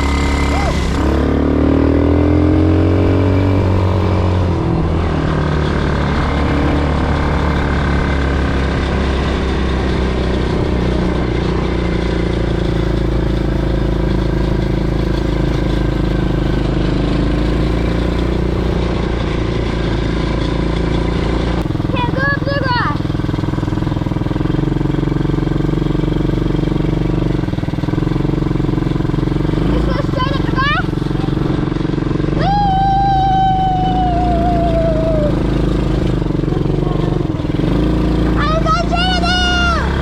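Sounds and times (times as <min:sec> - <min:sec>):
quad bike engine: 0:00.0 - 0:40.0.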